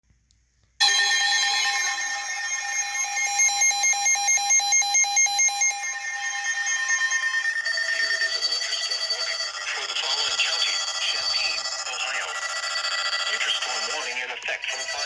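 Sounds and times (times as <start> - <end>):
fast pulsing beep: 0.8 - 15.0
shrill two-tone alarm: 0.8 - 15.0.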